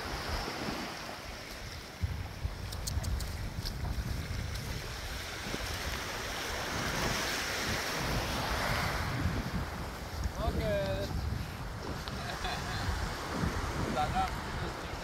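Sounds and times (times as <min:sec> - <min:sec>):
small waves on a beach: 0:00.0 - 0:15.0
wind buffeting microphone: 0:00.0 - 0:15.0.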